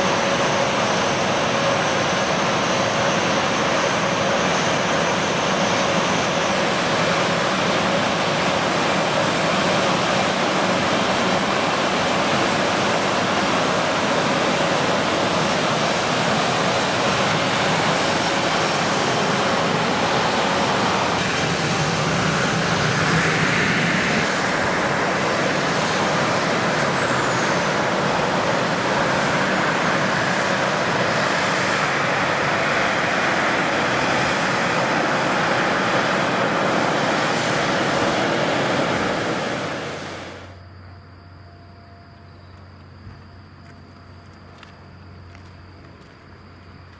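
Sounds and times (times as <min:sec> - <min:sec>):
jet engine roar with whine: 0:00.0 - 0:46.9.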